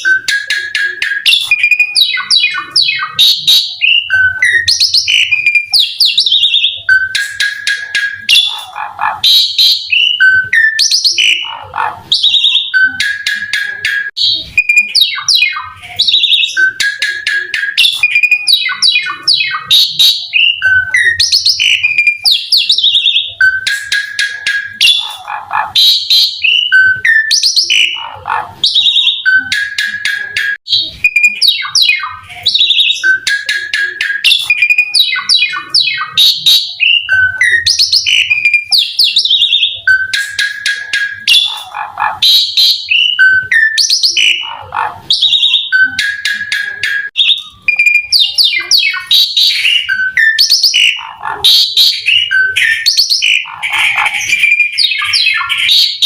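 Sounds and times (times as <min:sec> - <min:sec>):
starling singing whistles and trills: 0:00.0 - 0:56.0.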